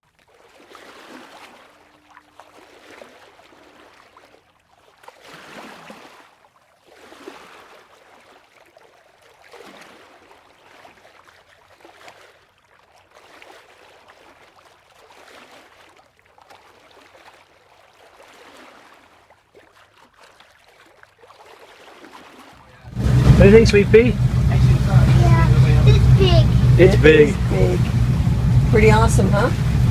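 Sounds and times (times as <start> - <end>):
small sea waves lapping: 0.0 - 29.9.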